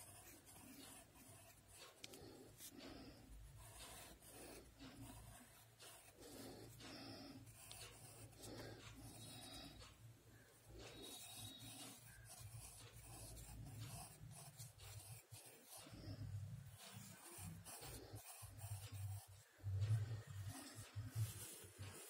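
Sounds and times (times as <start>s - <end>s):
pencil scratching on paper: 0.0s - 9.8s, 10.4s - 22.0s.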